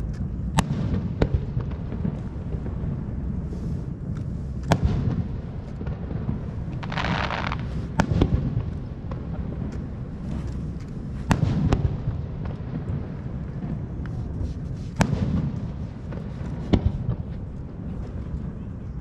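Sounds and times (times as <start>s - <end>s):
fireworks bangs: 0.0s - 19.0s
hissing crackle: 0.0s - 19.0s
low rumble of echoing bursts: 0.0s - 19.0s.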